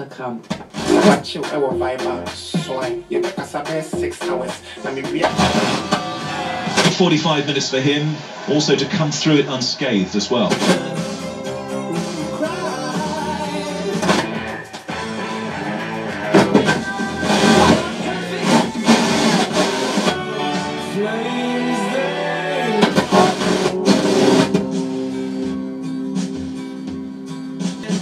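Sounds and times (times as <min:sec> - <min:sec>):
loud radio music: 0:00.4 - 0:28.0.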